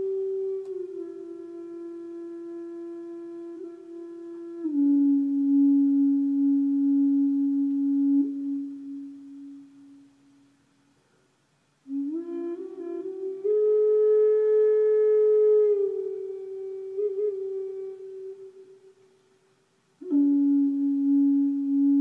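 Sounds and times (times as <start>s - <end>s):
flute playing slow melody: 0.0s - 10.9s, 11.8s - 22.0s.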